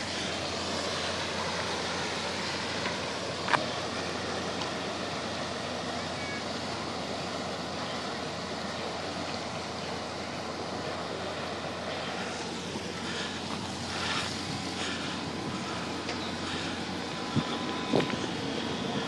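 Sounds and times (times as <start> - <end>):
sea water rushing: 0.0 - 19.0.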